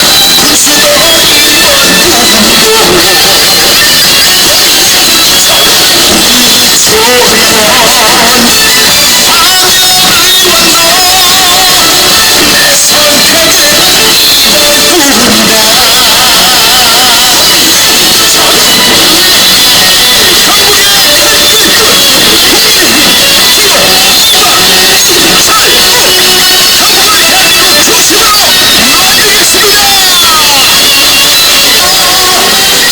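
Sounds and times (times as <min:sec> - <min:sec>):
loud band music with singing: 0:00.0 - 0:32.9.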